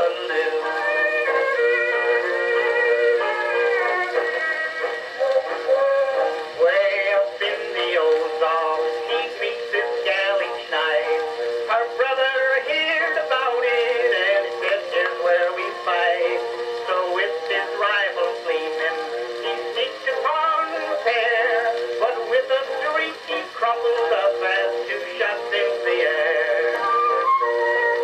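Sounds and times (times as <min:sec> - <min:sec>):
man singing: 0:00.0 - 0:27.1
instrumental accompaniment: 0:00.0 - 0:28.0.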